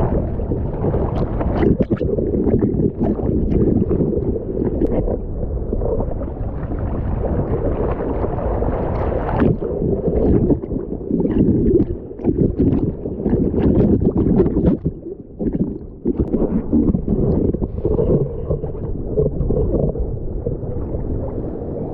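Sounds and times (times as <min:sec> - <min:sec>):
water sloshing and splashing: 0:00.0 - 0:21.9.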